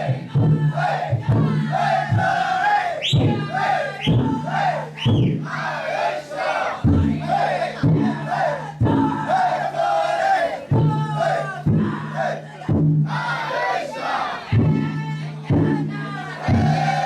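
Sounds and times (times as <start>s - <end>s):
big drum beats ringing: 0.0s - 13.7s, 14.4s - 17.0s
crowd of men chanting and shouting: 0.0s - 17.0s.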